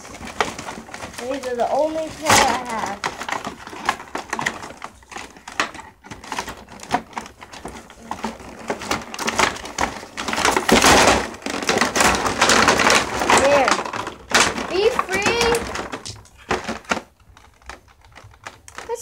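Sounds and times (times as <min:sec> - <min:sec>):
cardboard packaging crackling: 0:00.0 - 0:19.0.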